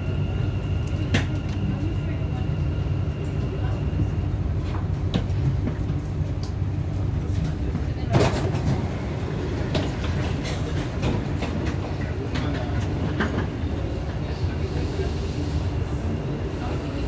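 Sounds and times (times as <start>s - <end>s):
train car low hum: 0.0s - 17.0s.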